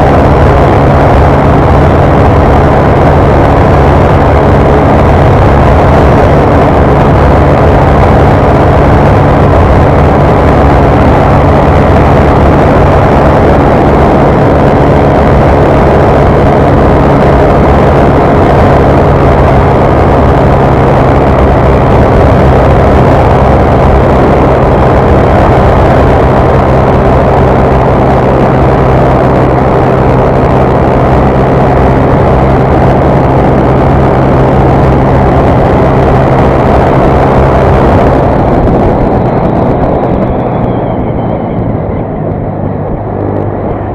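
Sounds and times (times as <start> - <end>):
motorcycle engine at full throttle: 0.0 - 43.9.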